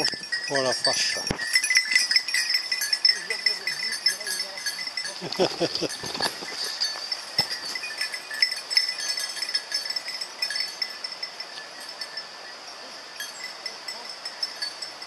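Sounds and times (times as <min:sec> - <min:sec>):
dog bell jingling: 0:00.0 - 0:15.0.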